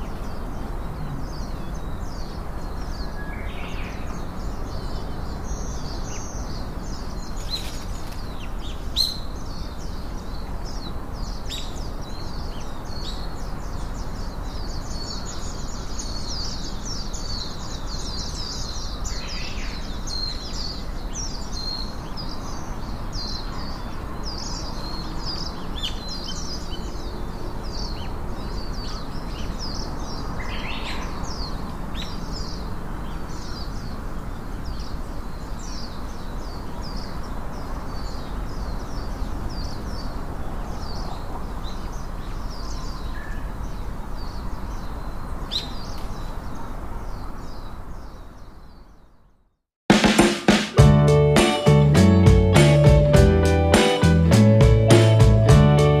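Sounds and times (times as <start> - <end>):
small birds chirping: 0.0 - 49.5.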